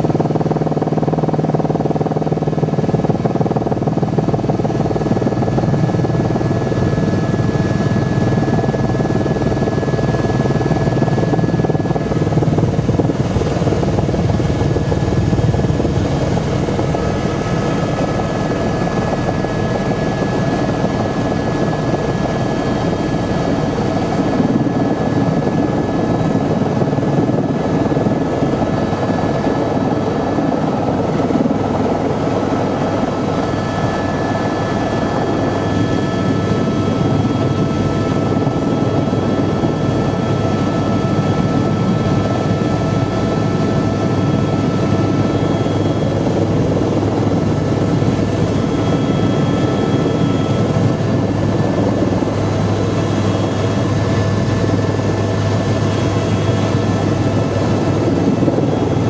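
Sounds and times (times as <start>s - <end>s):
helicopter rotor and turbine drone: 0.0s - 59.0s.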